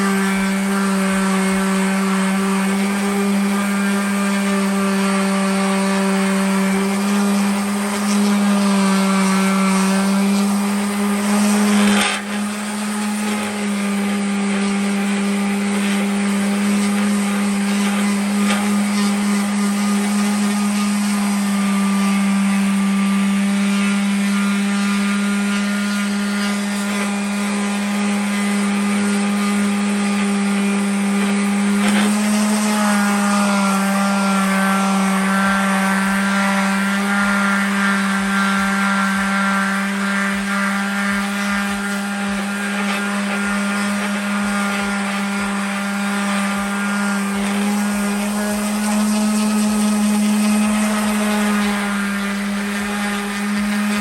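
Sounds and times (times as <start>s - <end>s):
power tool motor whining: 0.0s - 54.0s.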